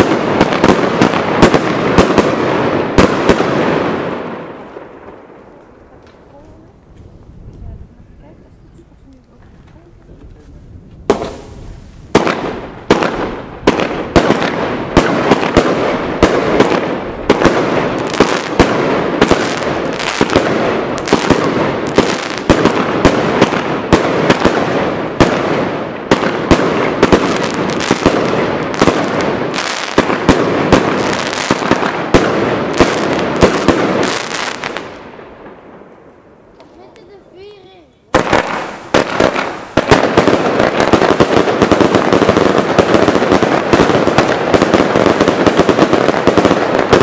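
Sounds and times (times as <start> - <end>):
firework bangs: 0.0 - 8.6, 9.4 - 47.0
firework crackling: 0.0 - 47.0.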